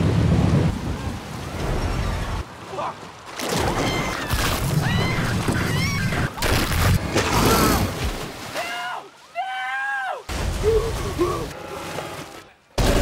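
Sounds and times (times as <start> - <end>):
heavy splashing water: 0.0 - 13.0
rushing sloshing water: 0.0 - 13.0.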